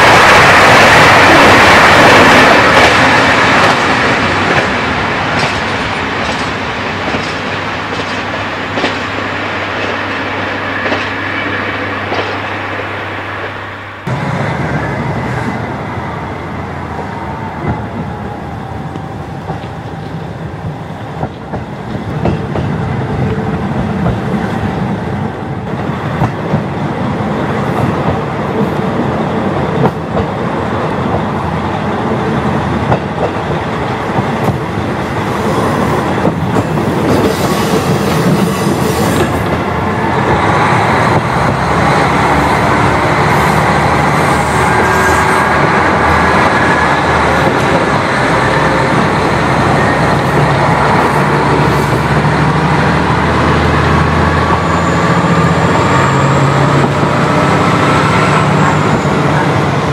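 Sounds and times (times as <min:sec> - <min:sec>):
train engine and rail noise: 0:00.0 - 0:59.9
rail joint clicks: 0:00.1 - 0:12.5, 0:16.8 - 0:55.8.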